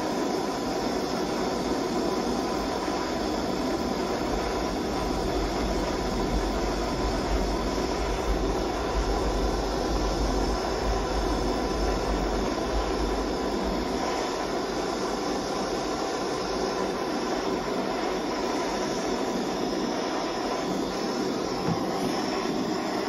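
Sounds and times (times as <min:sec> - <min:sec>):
gas torch hissing: 0:00.0 - 0:23.0.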